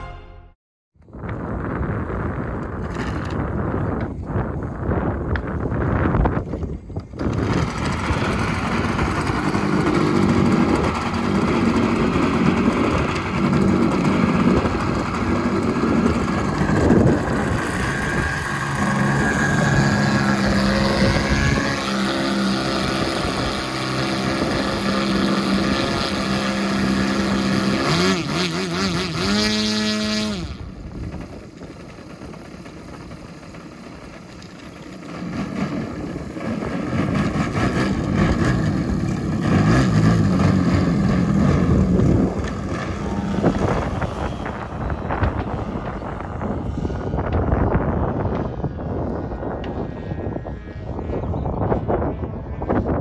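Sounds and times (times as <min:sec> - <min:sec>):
model plane petrol engine running: 0:06.5 - 0:51.1.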